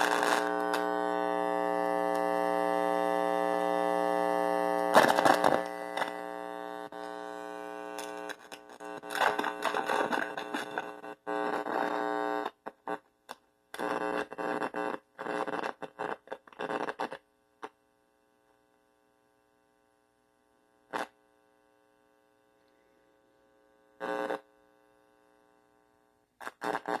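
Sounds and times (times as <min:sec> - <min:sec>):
guitar amplifier buzzing static: 0:00.0 - 0:27.0.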